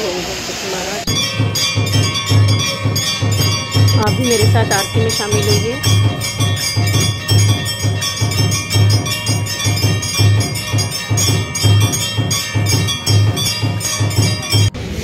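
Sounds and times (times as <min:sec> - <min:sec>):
drum beating steadily: 0:01.0 - 0:14.8
bells rung rapidly: 0:01.1 - 0:15.0.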